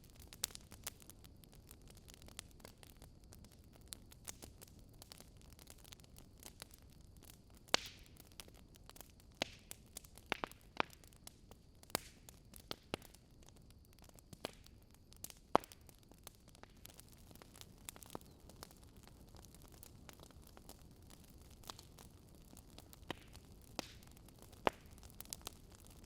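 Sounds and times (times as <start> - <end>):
faint steady hiss: 0.0 - 26.0
wood fire crackling and popping: 0.0 - 26.0.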